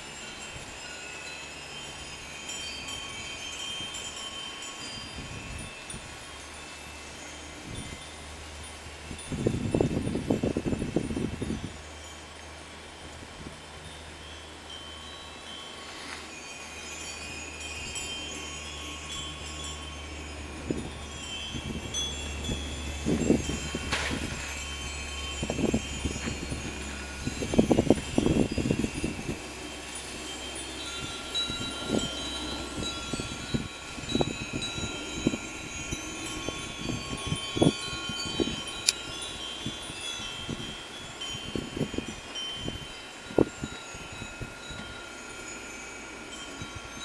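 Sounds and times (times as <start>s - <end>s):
metal wind chimes ringing: 0.0s - 47.0s
wind rumble on microphone: 0.0s - 47.0s.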